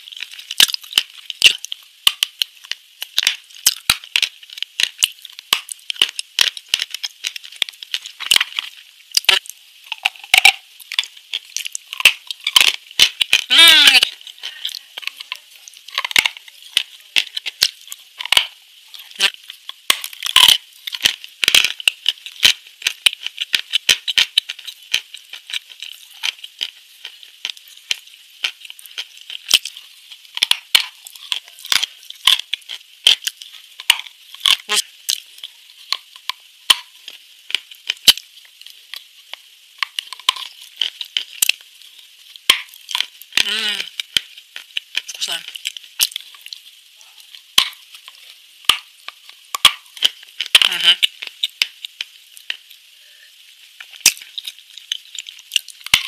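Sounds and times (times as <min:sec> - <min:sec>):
wet mouth clicks: 0:00.0 - 0:38.3, 0:38.9 - 0:56.0
close chewing crunches: 0:00.0 - 0:56.0.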